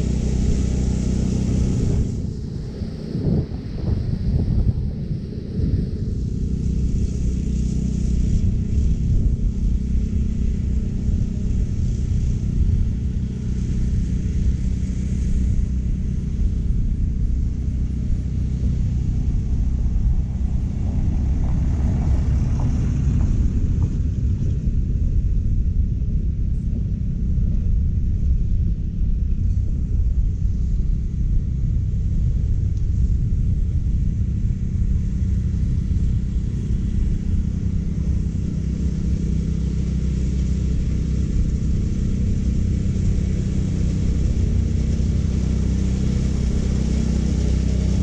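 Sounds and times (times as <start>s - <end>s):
reel mower engine hum: 0.0s - 48.0s.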